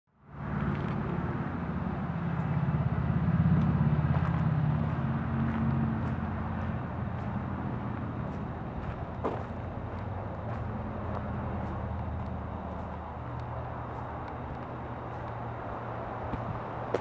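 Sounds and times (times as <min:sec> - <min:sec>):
engine running with pulsing hum: 0:00.2 - 0:17.0.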